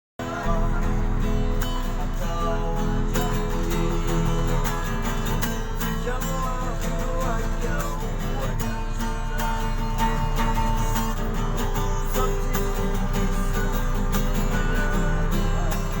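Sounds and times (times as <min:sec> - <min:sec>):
acoustic guitar strumming: 0:00.2 - 0:16.0.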